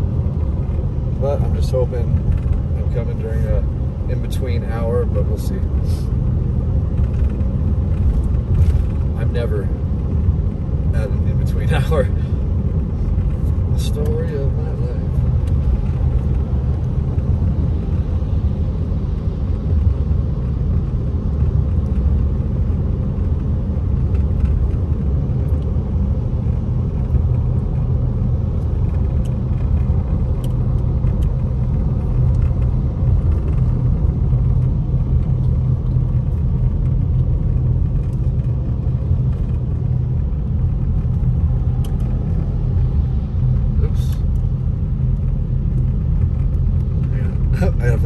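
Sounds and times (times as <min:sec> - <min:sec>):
car driving on wet road: 0:00.0 - 0:48.0.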